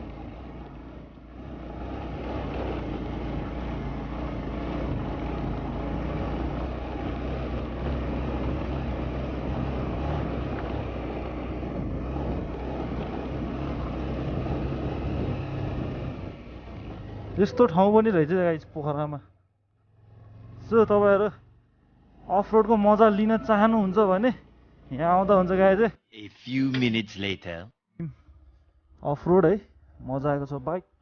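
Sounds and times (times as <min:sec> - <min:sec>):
motorcycle engine running: 0:00.0 - 0:25.8
road and wind noise: 0:00.0 - 0:25.8.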